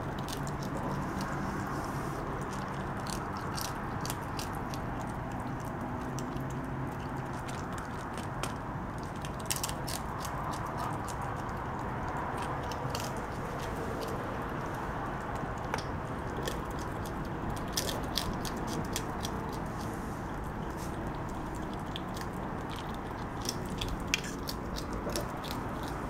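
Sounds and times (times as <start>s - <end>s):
skunk crunching food: 0.0s - 26.0s.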